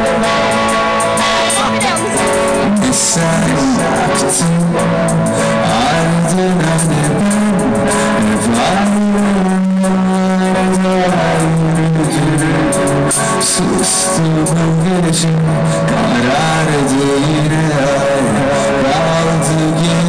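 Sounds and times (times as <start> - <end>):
rock band playing loudly: 0.0 - 20.0.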